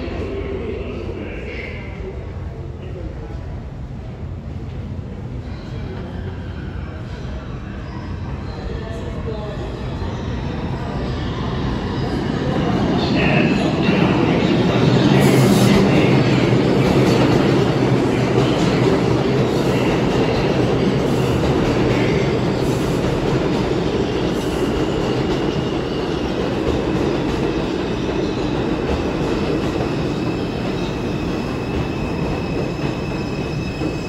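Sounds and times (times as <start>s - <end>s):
subway train rumbling on track: 0.0s - 34.0s.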